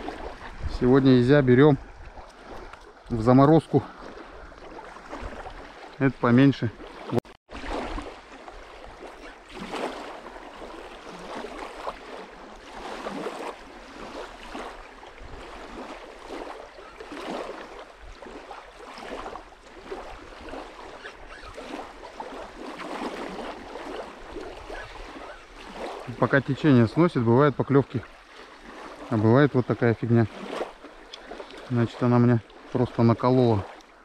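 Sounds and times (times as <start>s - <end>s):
small waves lapping on sand: 0.0s - 34.0s.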